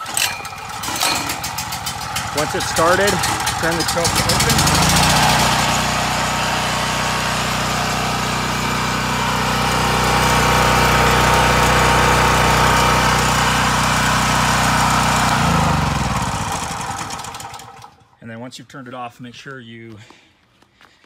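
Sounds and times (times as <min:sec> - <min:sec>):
generator engine running steadily: 0:00.0 - 0:18.2.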